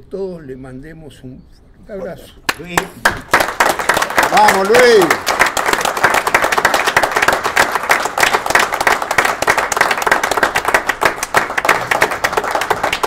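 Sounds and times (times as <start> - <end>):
people applauding: 2.5 - 13.0.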